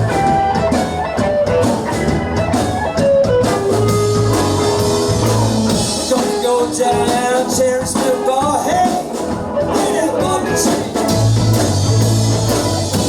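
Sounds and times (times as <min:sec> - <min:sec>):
electric guitar lines: 0:00.0 - 0:13.0
live rock band: 0:00.0 - 0:13.0.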